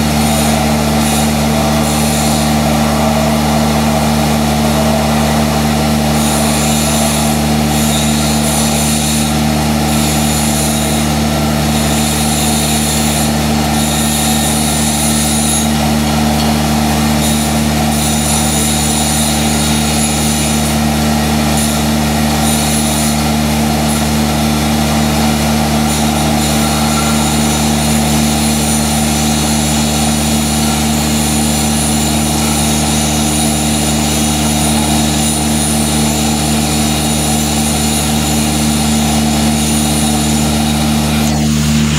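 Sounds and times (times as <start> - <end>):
machine hum: 0.0 - 41.9
welding arc hissing crackle: 0.0 - 41.9.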